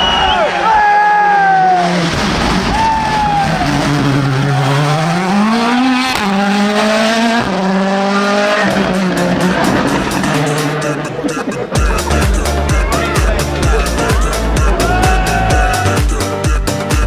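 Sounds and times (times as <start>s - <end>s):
rally car engine revving: 1.3s - 16.4s.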